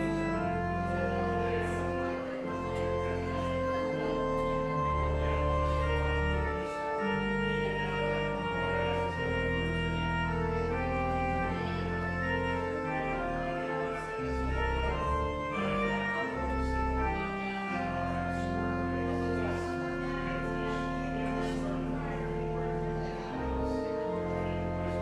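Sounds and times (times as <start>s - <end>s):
church organ playing chords: 0.0s - 25.0s.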